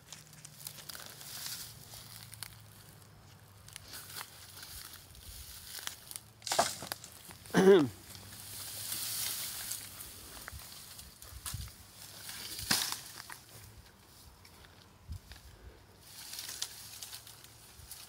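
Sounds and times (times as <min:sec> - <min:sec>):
branch cracking: 0:00.0 - 0:05.0, 0:05.6 - 0:13.5, 0:16.1 - 0:18.0
dry brush rustling and crackling: 0:00.0 - 0:18.0.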